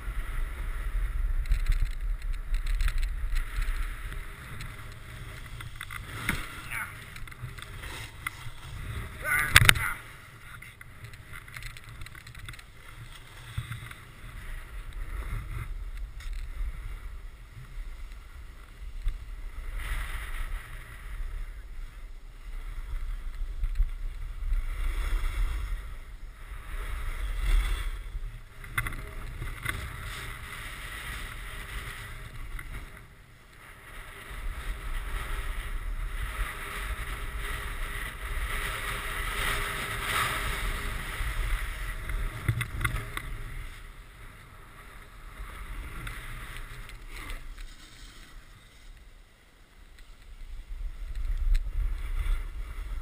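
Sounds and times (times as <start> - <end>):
snowboard scraping over snow: 0.0 - 53.0
wind rumbling on microphone: 0.0 - 53.0.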